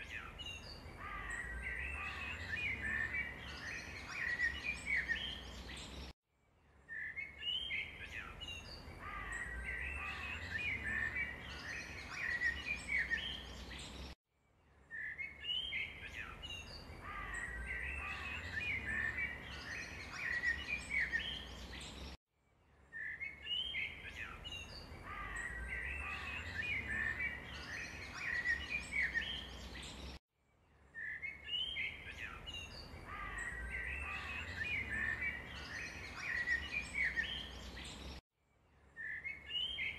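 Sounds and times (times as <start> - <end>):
small birds chirping: 0.0 - 6.2, 6.8 - 14.2, 14.8 - 22.2, 22.8 - 30.2, 30.8 - 38.2, 38.8 - 39.9.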